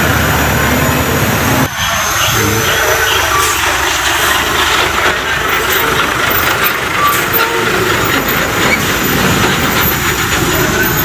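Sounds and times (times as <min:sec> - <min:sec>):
diesel trucks rumbling past: 0:00.0 - 0:11.0
rattling road noise: 0:00.0 - 0:11.0.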